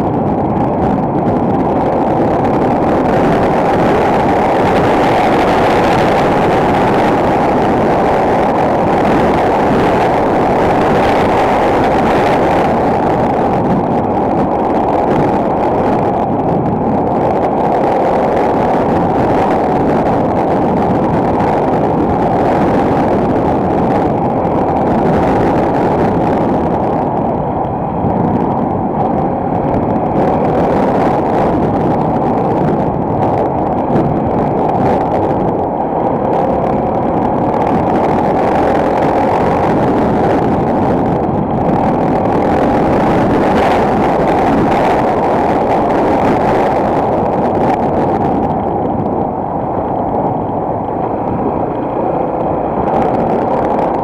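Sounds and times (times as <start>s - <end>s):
muffled motorcycle engine: 0.0s - 54.0s
wind rush: 0.0s - 54.0s.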